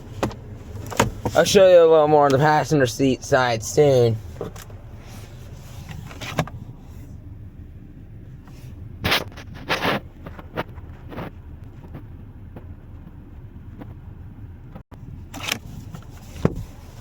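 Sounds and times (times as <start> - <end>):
car cabin low hum: 0.0 - 17.0.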